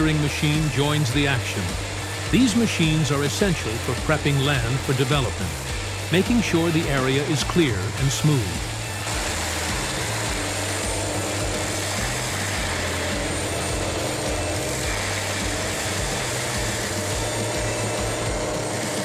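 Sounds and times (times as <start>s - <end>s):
brush cutter engine drone: 0.0s - 19.0s.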